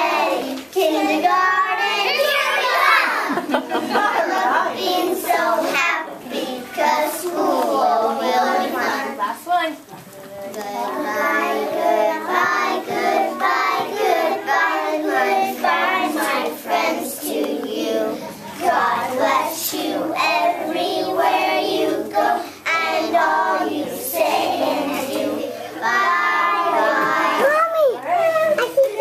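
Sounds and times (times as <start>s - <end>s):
children singing together: 0.0s - 9.2s, 10.6s - 27.6s.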